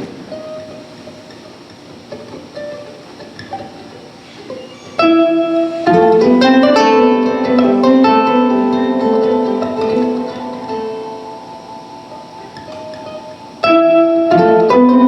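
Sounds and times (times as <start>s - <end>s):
solo stringed instrument: 0.0s - 15.0s.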